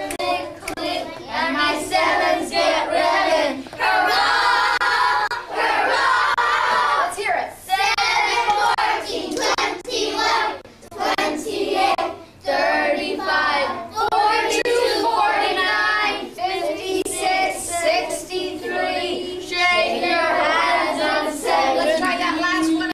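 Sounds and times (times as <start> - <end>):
children singing in unison: 0.0 - 7.1, 7.7 - 22.9.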